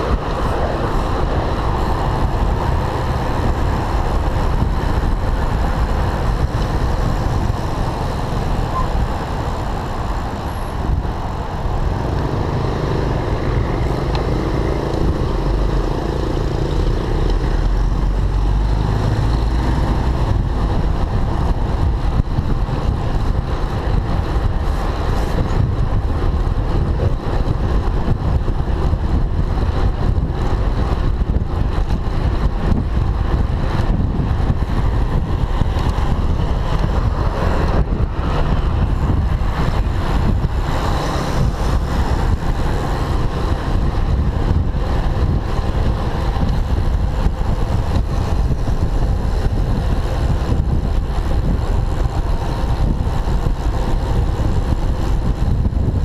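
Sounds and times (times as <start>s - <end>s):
street traffic: 0.0s - 56.0s
wind rushing over microphone: 0.0s - 56.0s.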